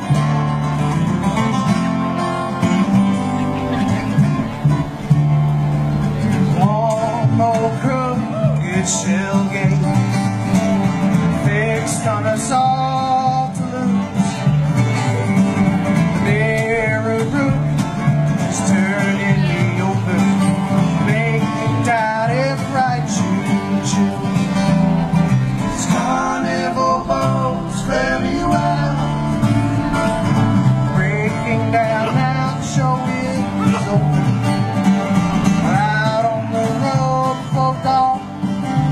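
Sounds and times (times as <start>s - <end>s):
acoustic guitars picking and strumming: 0.0s - 38.9s
plucked upright bass: 0.0s - 38.9s.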